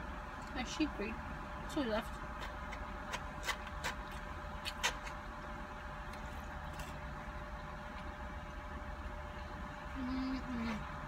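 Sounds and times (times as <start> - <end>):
low hum inside a car: 0.0 - 11.0.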